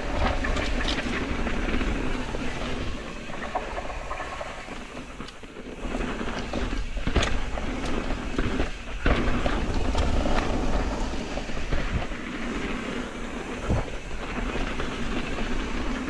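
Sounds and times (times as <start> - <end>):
bike tyres rumbling on dirt: 0.0 - 16.0.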